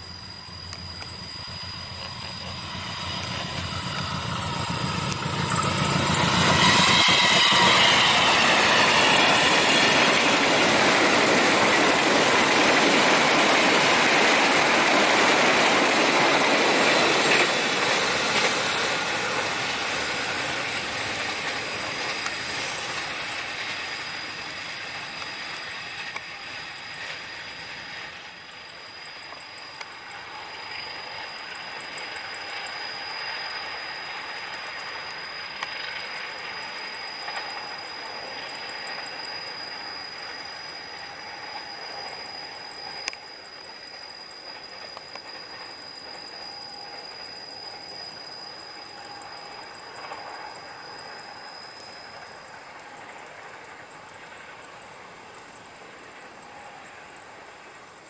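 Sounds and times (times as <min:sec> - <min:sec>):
train wheels rumbling and rattling: 0:00.1 - 0:58.0.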